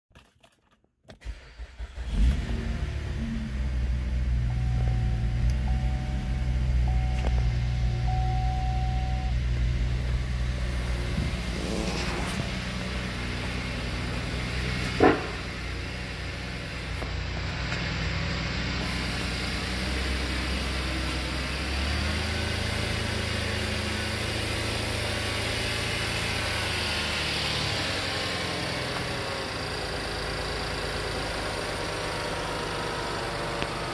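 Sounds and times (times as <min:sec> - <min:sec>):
car engine starting and idling: 0:01.1 - 0:33.9.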